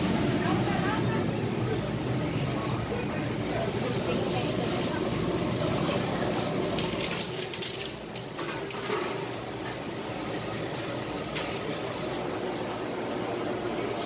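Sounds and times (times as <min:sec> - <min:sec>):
aeration pump hum: 0:00.0 - 0:14.0.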